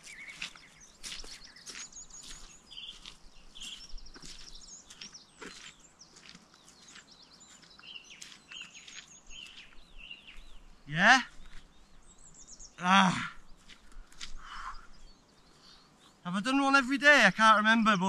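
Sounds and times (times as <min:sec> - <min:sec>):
small birds chirping and trilling: 0:00.0 - 0:18.0.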